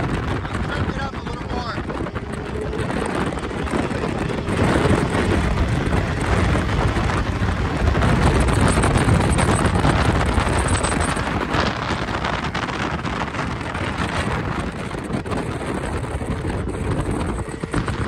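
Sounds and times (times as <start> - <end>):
outboard engine running: 0.0 - 18.0
wind on microphone: 0.0 - 18.0.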